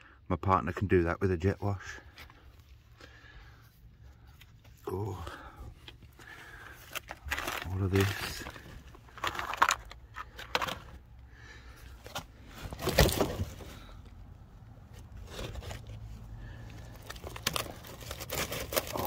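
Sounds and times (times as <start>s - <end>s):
carpet rustling and scraping: 1.5s - 19.0s.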